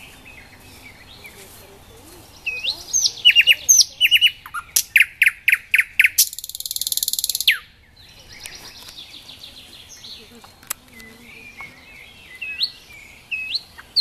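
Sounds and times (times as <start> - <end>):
bird chirping: 0.0 - 14.0
nightingale singing: 0.0 - 14.0.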